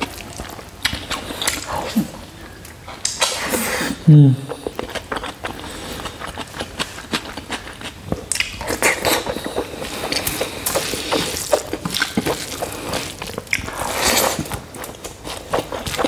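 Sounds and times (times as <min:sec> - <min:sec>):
food squishing: 0:00.0 - 0:03.6, 0:04.5 - 0:16.0
wet chewing and lip-smacking: 0:00.0 - 0:03.6, 0:04.4 - 0:16.0.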